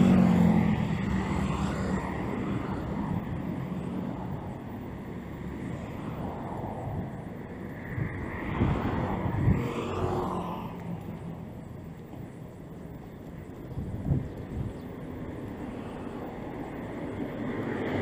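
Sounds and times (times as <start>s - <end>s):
cars passing on road: 0.0s - 18.0s
wind gusts on microphone: 0.0s - 18.0s.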